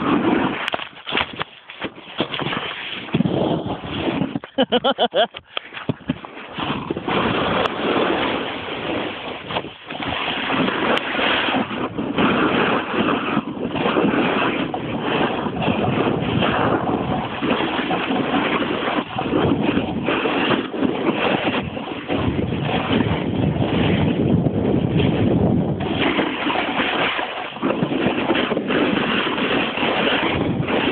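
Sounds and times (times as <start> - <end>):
snowboard scraping over snow: 0.0 - 30.9
wind on microphone: 0.0 - 30.9.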